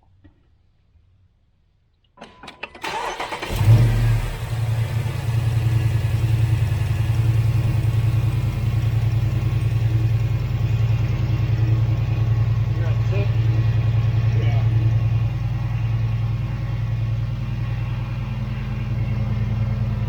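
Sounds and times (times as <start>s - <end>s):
car engine starting and idling: 2.6s - 20.0s.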